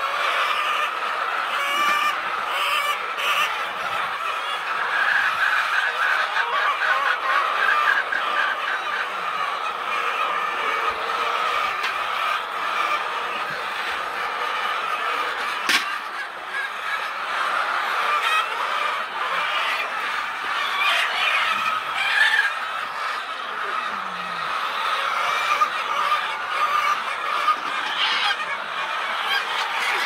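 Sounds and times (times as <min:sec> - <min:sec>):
many birds calling: 0:00.0 - 0:30.0.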